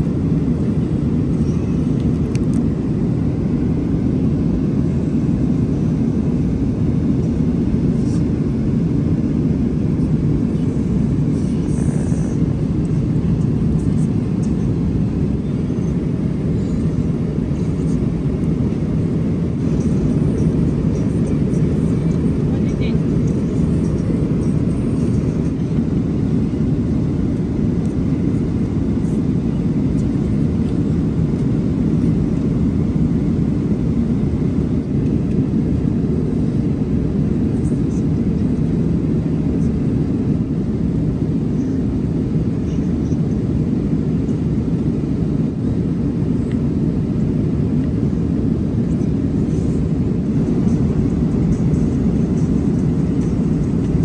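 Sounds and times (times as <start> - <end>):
airplane cabin engine roar: 0.0 - 54.0.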